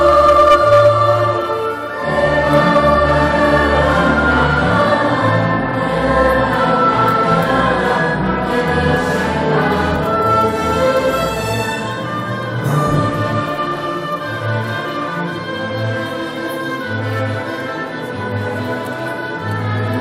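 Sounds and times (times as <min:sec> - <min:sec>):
orchestra playing held chords: 0:00.0 - 0:20.0.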